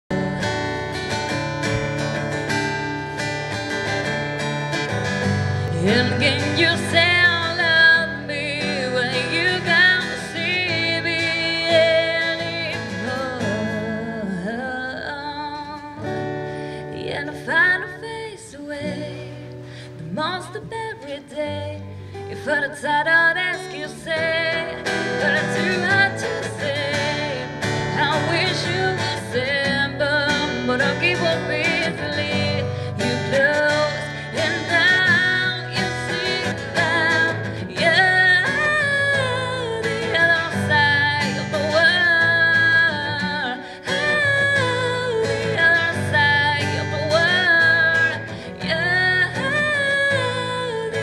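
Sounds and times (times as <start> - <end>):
strummed acoustic guitar: 0.1 - 51.0
woman singing: 0.1 - 51.0.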